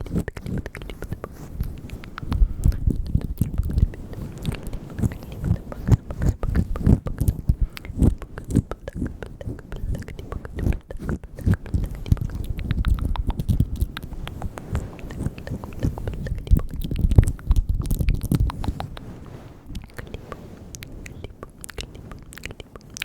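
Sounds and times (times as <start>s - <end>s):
wet lip and tongue clicks: 0.0s - 23.0s.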